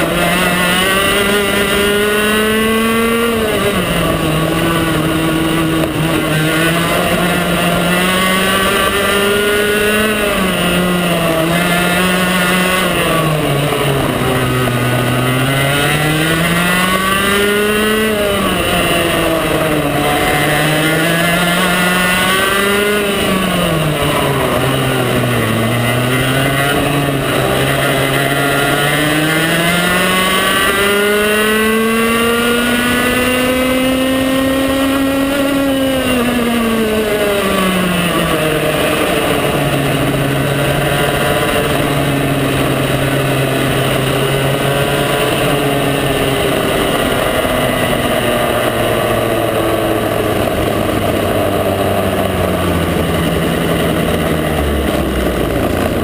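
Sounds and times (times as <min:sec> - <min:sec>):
kart two-stroke engine racing: 0:00.0 - 0:56.0.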